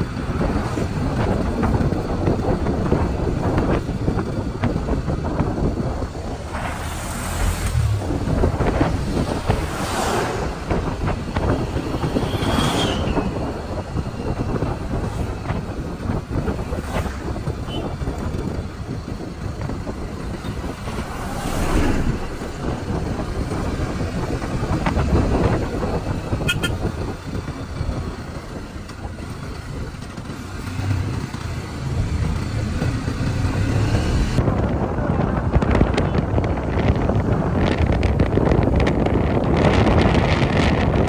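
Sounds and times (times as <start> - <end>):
road and engine noise: 0.0 - 41.0
wind buffeting microphone: 0.0 - 41.0.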